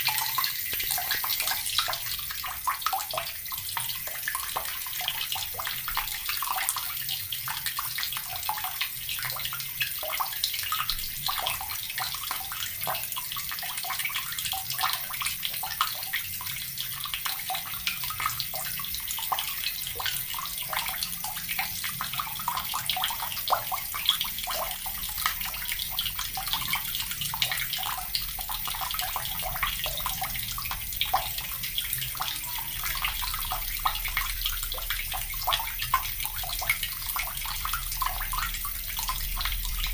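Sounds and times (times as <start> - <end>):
tap water splashing into bucket: 0.0 - 39.9.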